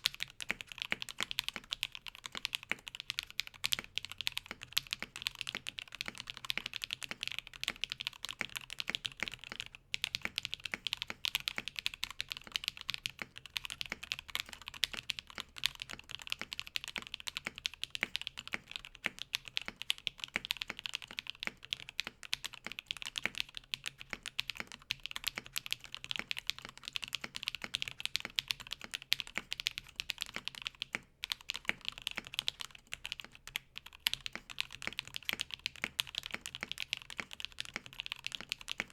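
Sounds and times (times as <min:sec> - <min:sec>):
fast keyboard typing: 0:00.0 - 0:38.9.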